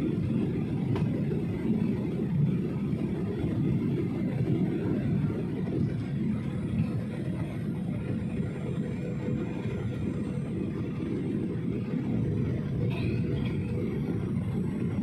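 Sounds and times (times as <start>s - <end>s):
jet engine and airflow rumble: 0.0s - 15.0s.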